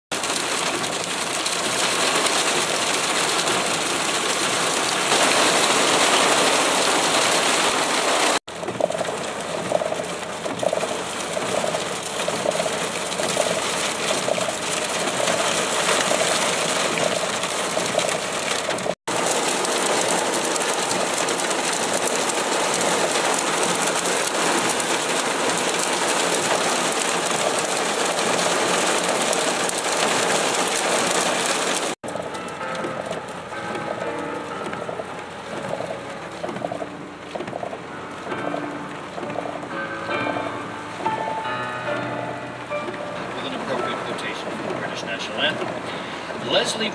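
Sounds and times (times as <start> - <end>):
heavy rain on paving: 0.1 - 46.9.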